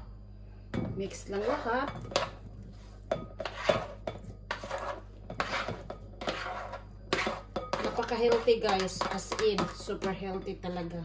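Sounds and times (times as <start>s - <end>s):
spatula scraping plate and bowl: 1.1s - 10.9s.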